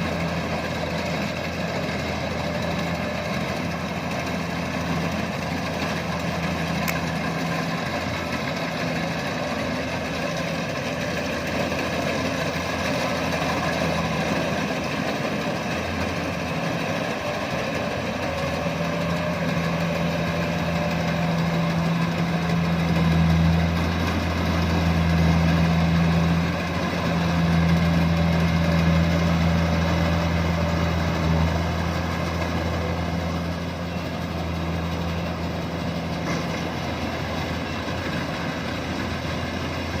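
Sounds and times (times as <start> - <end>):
harvester engine humming: 0.0 - 40.0.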